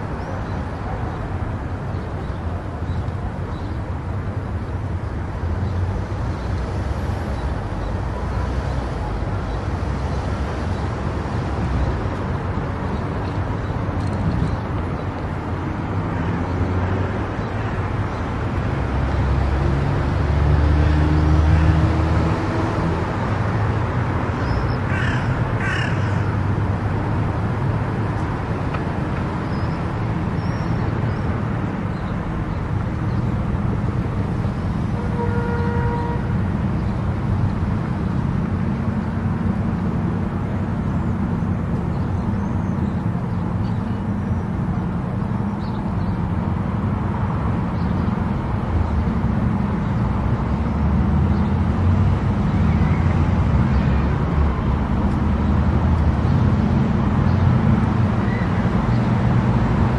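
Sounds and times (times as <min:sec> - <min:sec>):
car road and tyre noise: 0:00.0 - 0:59.9.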